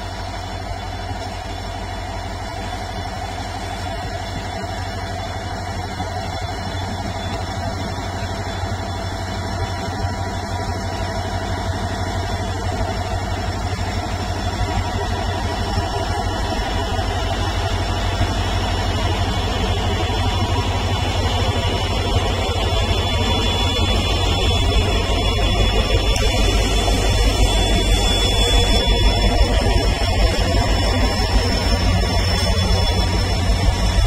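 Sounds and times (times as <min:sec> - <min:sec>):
diesel locomotive engine under load: 0:00.0 - 0:34.0.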